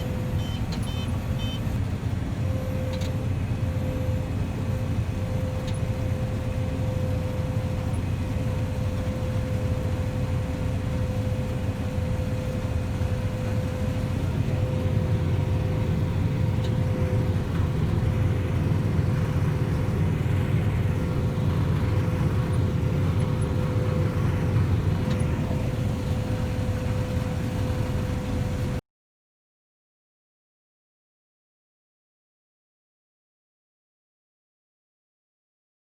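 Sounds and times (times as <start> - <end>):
constant machine whine: 0.0 - 28.8
farm machinery engine rumble: 0.0 - 28.8.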